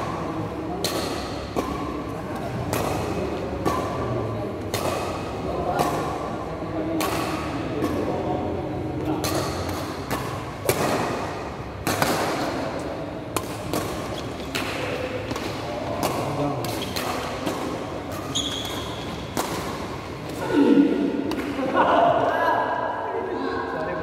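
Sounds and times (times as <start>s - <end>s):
rackets striking shuttlecock: 0.0s - 20.4s, 21.1s - 21.8s.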